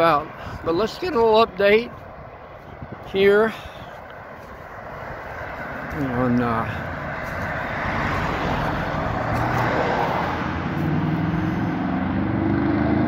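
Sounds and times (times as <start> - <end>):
engine hum: 0.0 - 13.0
tyre and road noise: 0.0 - 13.0.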